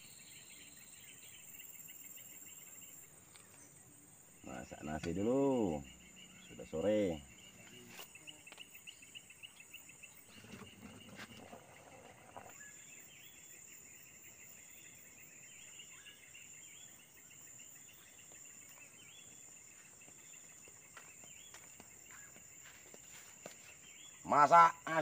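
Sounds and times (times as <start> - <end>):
crickets trilling and chirping: 0.0 - 25.0.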